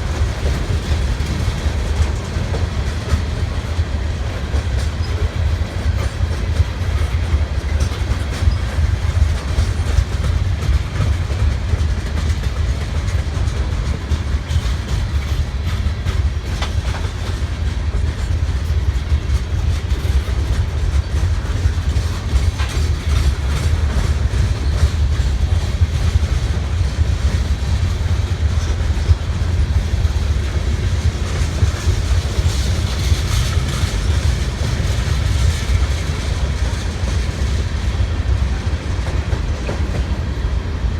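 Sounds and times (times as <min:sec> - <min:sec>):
freight train rumbling on track: 0:00.0 - 0:40.9
train wheels clicking: 0:00.0 - 0:40.9.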